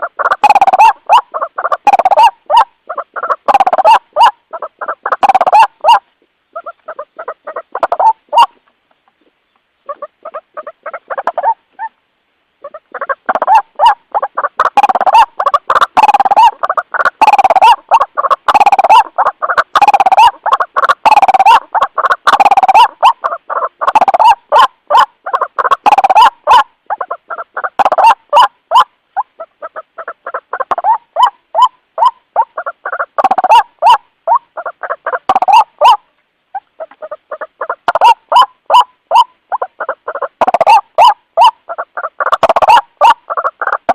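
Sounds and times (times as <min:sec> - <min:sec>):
waterhen calling: 0:00.0 - 0:43.9.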